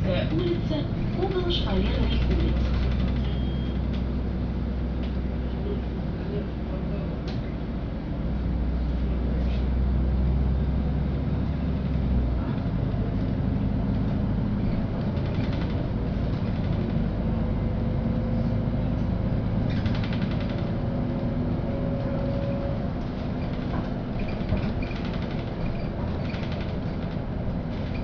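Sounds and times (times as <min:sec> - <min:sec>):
bus engine hum from inside: 0:00.0 - 0:28.0.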